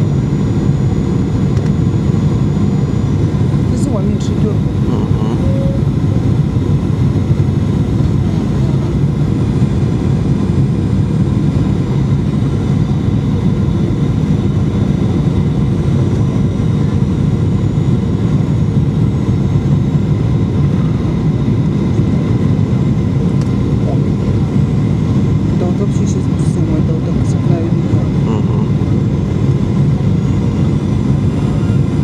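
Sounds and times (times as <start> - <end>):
jet cabin engine and airflow rush: 0.0 - 32.0.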